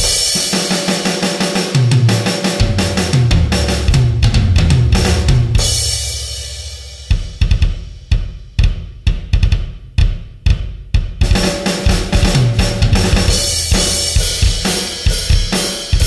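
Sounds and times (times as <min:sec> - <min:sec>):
drum beat: 0:00.0 - 0:16.0.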